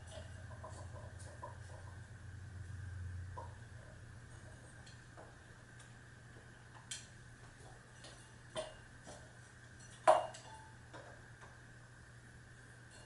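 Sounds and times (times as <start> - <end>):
ceiling fan clicking: 0.0 - 13.0.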